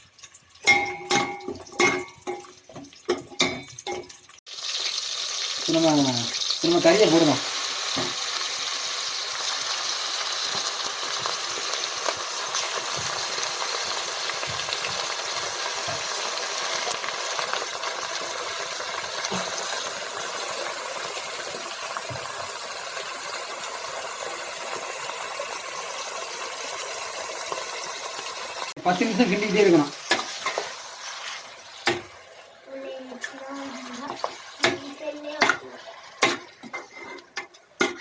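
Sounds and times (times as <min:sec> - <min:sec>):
meat sizzling in a pot: 0:00.0 - 0:38.0.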